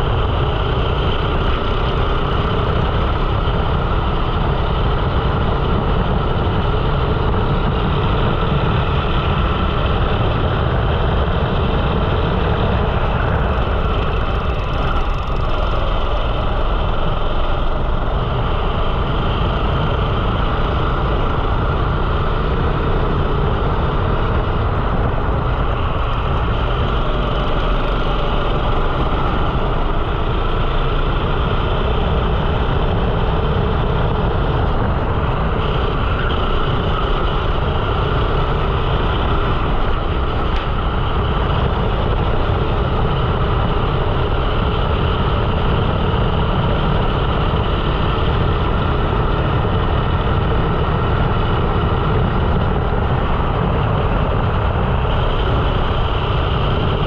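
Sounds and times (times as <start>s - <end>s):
kart engine running: 0.0s - 57.0s.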